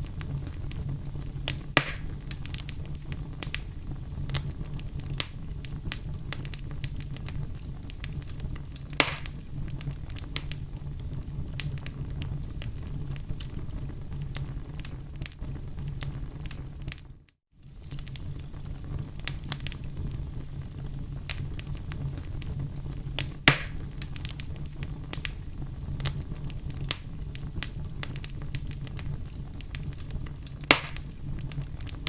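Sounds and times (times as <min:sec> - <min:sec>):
fire crackling in a fireplace: 0:00.0 - 0:32.0.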